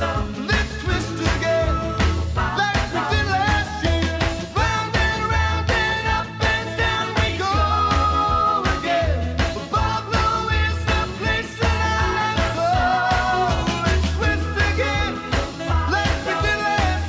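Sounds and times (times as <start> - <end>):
upbeat rock song with vocals: 0.0 - 17.0.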